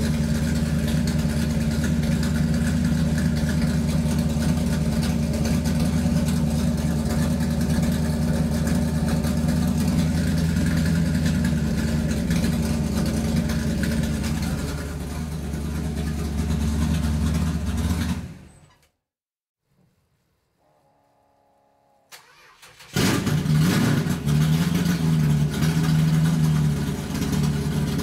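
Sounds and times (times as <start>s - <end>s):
vehicle engine running: 0.0s - 18.6s, 22.9s - 28.0s.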